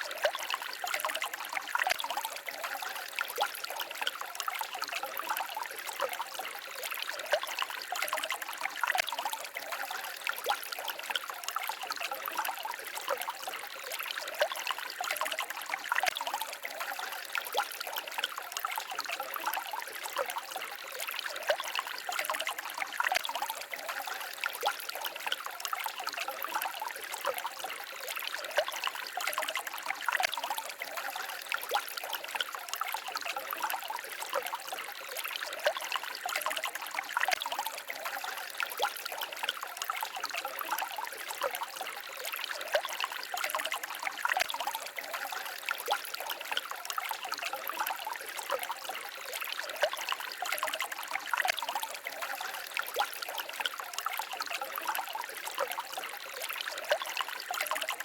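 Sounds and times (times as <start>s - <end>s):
forest stream babbling: 0.0s - 58.0s
small water splashes: 0.0s - 58.0s.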